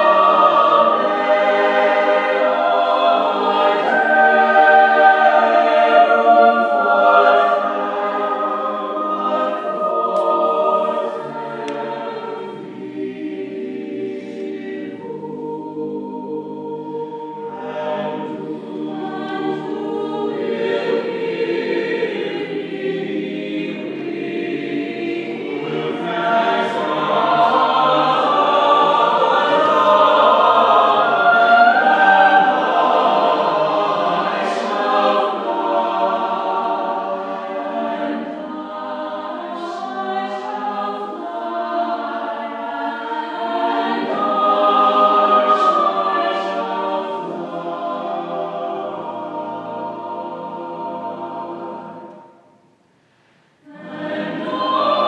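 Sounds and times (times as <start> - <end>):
choir singing harmony: 0.0 - 52.8, 53.5 - 55.0.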